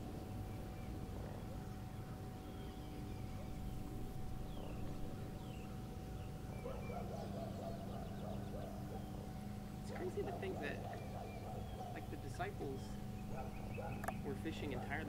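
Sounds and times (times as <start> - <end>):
steady low hum: 0.0 - 15.0
faint bird chirps: 0.4 - 14.4.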